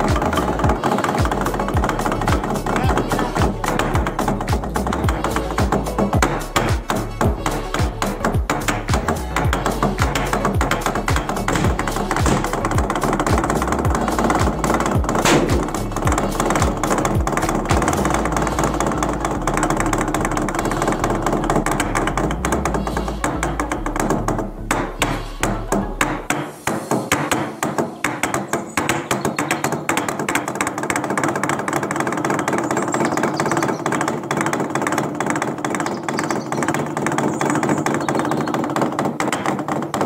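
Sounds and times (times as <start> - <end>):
hollow wooden log drum knocks: 0.0 - 40.0.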